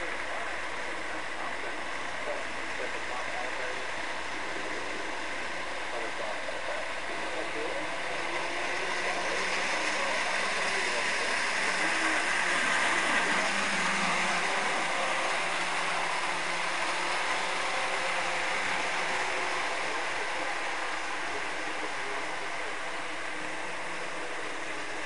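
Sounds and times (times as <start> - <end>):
model train whirring rumble: 0.0 - 25.0.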